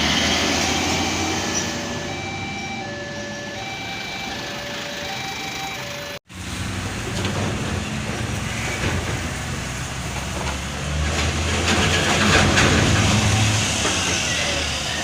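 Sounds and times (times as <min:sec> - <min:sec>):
truck engine passing by: 0:00.0 - 0:15.0.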